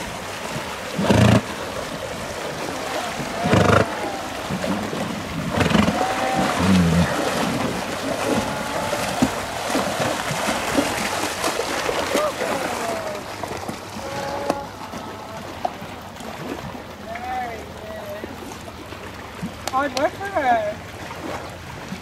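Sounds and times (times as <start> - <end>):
hooves splashing in shallow water: 0.0 - 22.0
horse swimming water splashing: 0.0 - 22.0.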